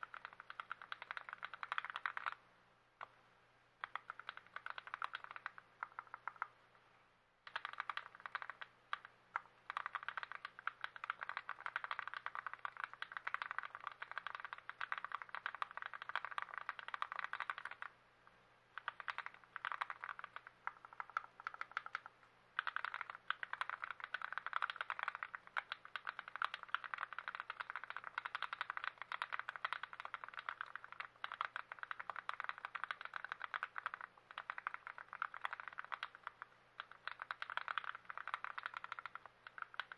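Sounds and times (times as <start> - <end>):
mechanical keyboard typing: 0.0 - 2.4, 3.8 - 6.5, 7.5 - 17.9, 18.8 - 39.9.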